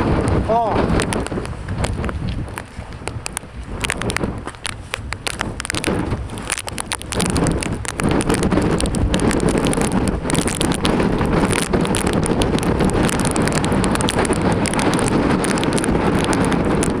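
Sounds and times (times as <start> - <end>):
rain crackles: 0.0 - 17.0
storm wind buffeting microphone: 0.0 - 17.0.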